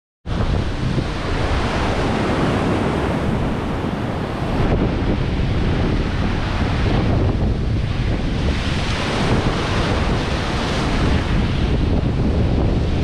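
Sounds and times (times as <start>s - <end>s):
wind buffeting microphone: 0.2s - 13.0s
ocean surf breaking: 0.3s - 13.0s.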